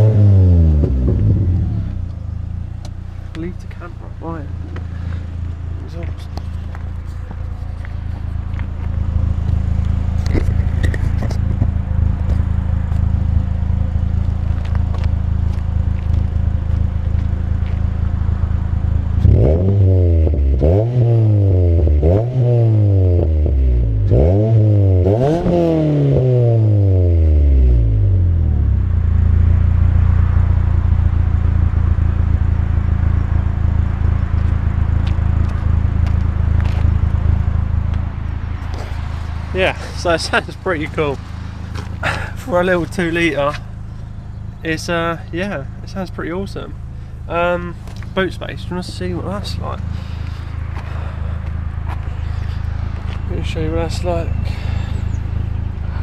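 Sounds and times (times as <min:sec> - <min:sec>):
car engine revving: 0:00.0 - 0:56.0
car engine idling: 0:00.4 - 0:20.8, 0:27.2 - 0:56.0.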